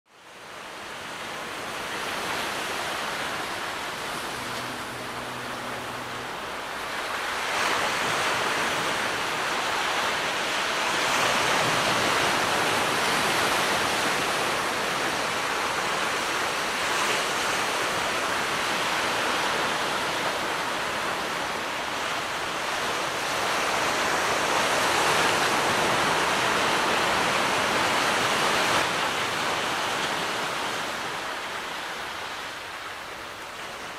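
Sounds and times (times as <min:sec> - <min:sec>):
waves washing onto beach: 0:00.1 - 0:33.9.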